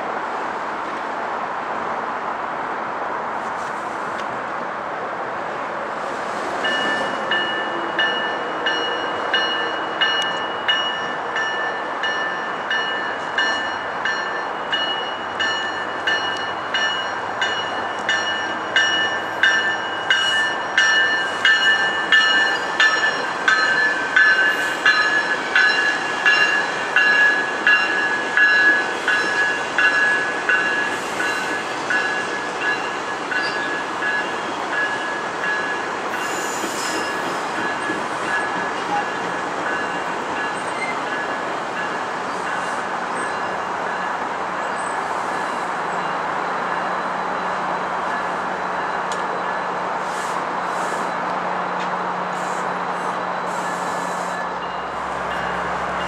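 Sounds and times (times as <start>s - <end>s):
rush of passing train cars: 0.0s - 56.0s.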